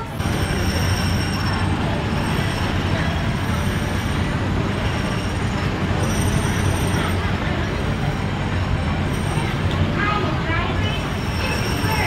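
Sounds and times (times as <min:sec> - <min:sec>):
crowd noise: 0:00.0 - 0:12.0
small gasoline engines running: 0:00.0 - 0:12.0.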